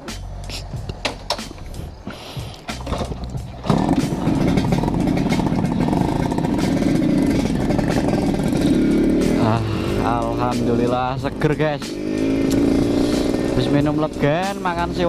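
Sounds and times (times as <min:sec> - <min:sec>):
motorcycle engine running: 0:02.8 - 0:15.0.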